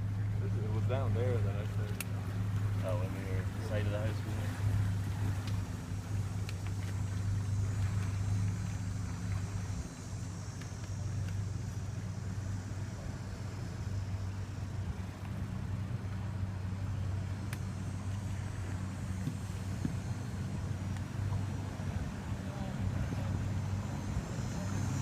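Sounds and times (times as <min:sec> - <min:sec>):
motorboat engine droning: 0:00.0 - 0:25.0.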